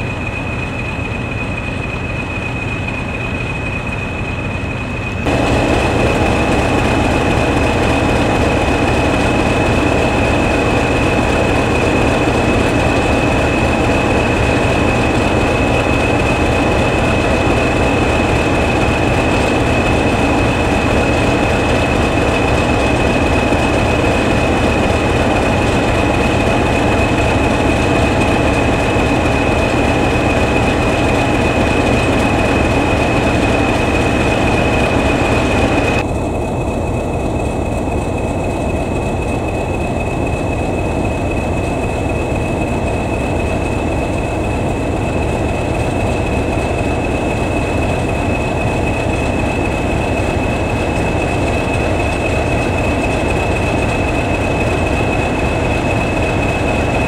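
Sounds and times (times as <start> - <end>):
low diesel engine rumble: 0.0 - 57.0.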